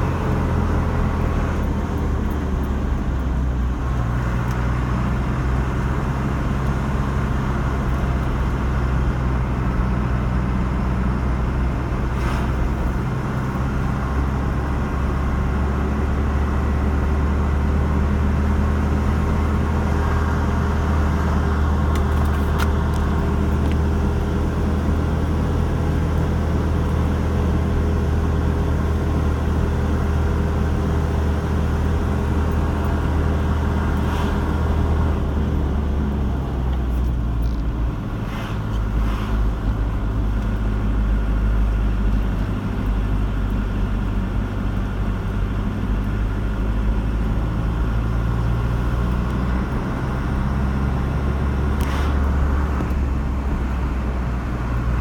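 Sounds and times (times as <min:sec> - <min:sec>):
car engine and road hum: 0:00.0 - 0:55.0.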